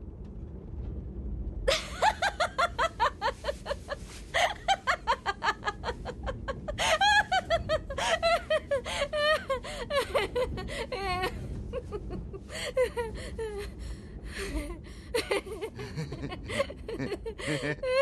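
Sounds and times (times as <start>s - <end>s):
low rumble: 0.0s - 18.0s
woman laughing hard: 1.7s - 13.8s, 14.4s - 18.0s.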